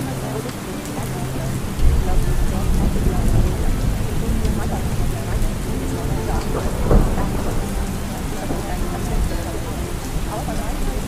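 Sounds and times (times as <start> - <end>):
faint speech: 0.0 - 11.0
heavy rain: 0.0 - 11.0
low thunder rumble: 0.0 - 11.0.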